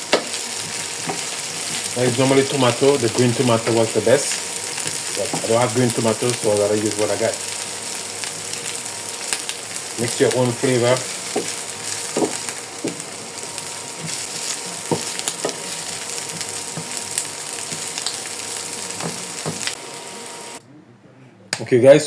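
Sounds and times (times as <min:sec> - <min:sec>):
vegetables sizzling in hot oil: 0:00.0 - 0:20.6.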